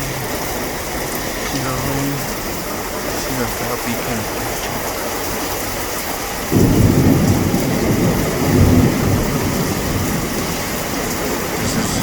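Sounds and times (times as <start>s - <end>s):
heavy rain falling: 0.0s - 12.0s
thunder rumbling: 0.0s - 12.0s.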